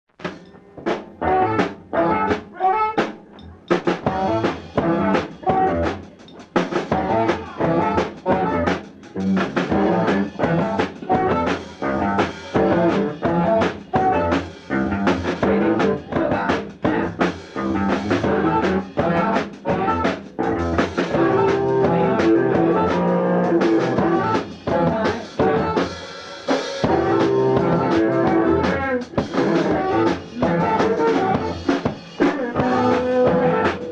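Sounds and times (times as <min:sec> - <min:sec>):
drums beating: 0:00.1 - 0:33.9
band playing live: 0:00.2 - 0:33.9.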